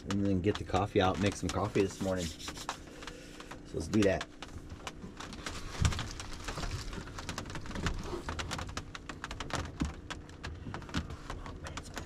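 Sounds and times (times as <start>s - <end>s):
clothes rustling: 0.0s - 12.0s
rain pattering on roof: 0.0s - 12.0s.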